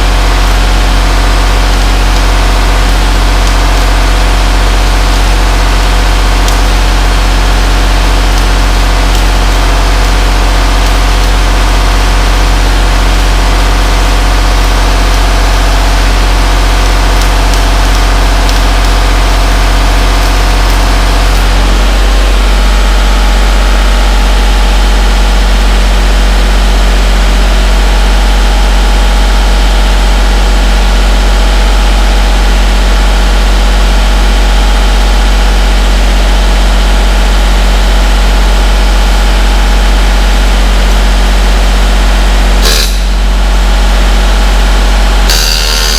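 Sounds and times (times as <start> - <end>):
machine humming: 0.0 - 45.9.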